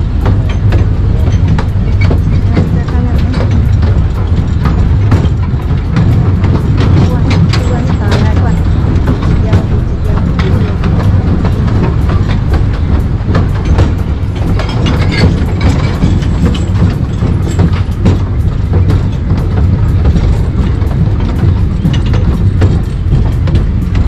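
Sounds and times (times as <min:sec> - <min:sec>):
train rumbling: 0:00.0 - 0:24.0
train wheels clattering on track: 0:00.0 - 0:24.0.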